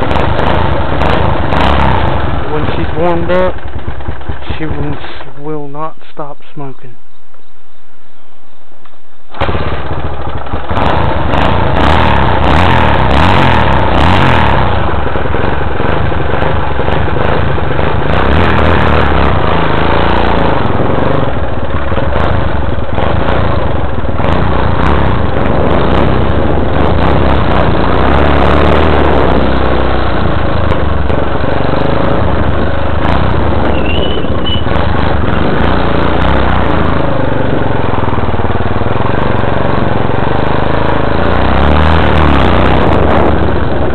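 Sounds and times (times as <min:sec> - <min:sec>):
motorcycle engine running: 0:00.0 - 0:07.4, 0:09.3 - 0:43.9.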